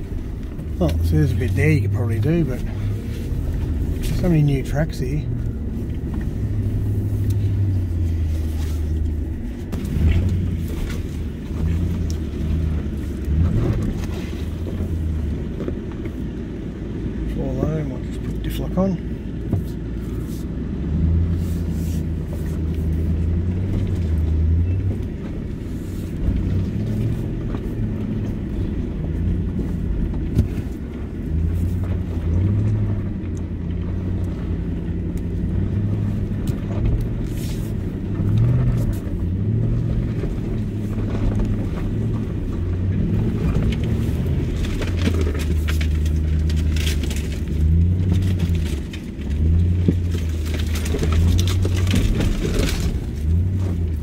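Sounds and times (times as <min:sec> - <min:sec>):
engine running at low revs: 0:00.0 - 0:54.0.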